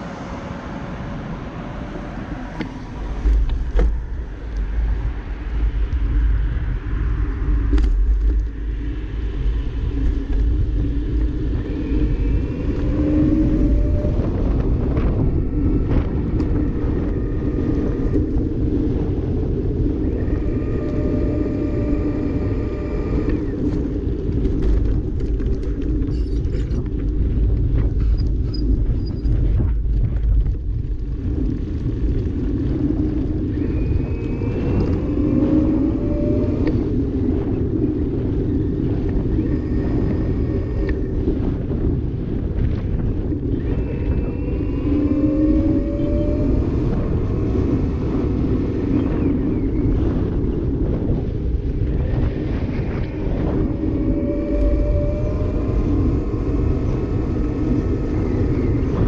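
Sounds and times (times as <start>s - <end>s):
bicycle road noise: 0.0s - 59.0s
wind rumble: 0.0s - 59.0s.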